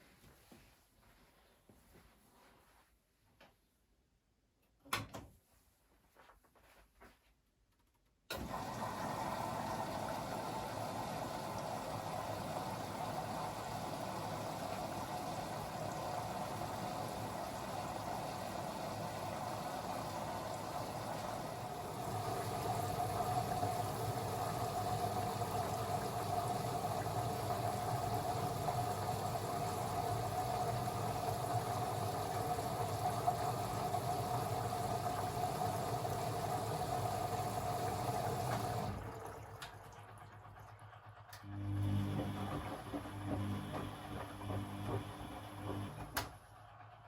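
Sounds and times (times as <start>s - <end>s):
washing machine running: 8.3s - 47.0s.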